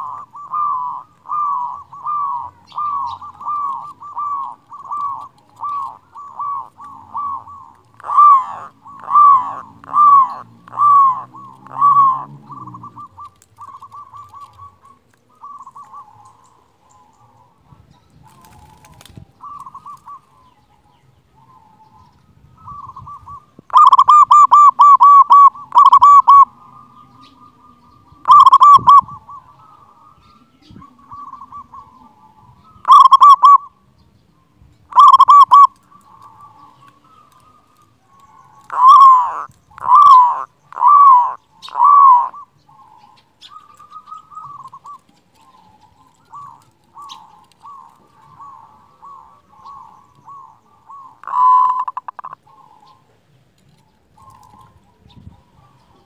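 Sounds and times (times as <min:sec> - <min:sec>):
dove cooing: 0:00.0 - 0:34.0, 0:34.9 - 0:56.0.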